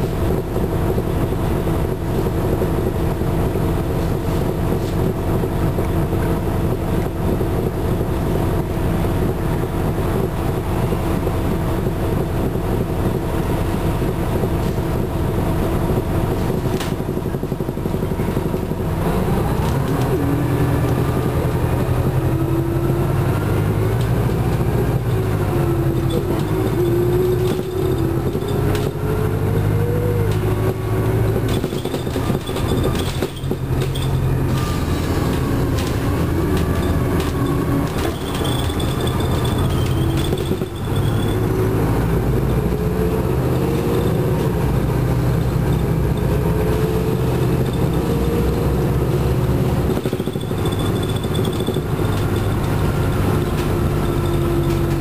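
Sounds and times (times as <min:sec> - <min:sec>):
diesel bus engine whine: 0:00.0 - 0:55.0.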